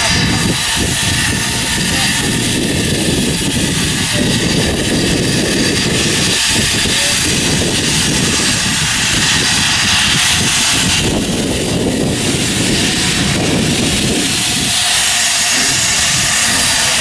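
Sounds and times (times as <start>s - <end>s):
low rumble: 0.0s - 17.0s
steam locomotive hissing: 0.0s - 17.0s.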